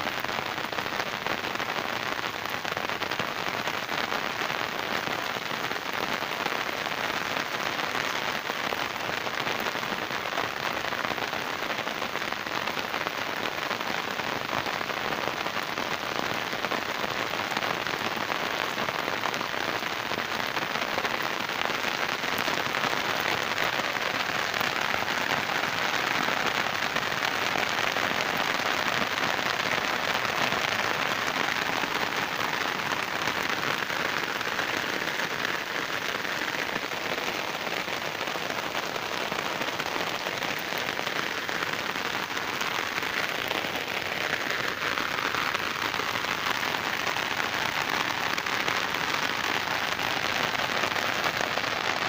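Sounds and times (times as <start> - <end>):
rain falling on trees and ground: 0.0 - 52.0.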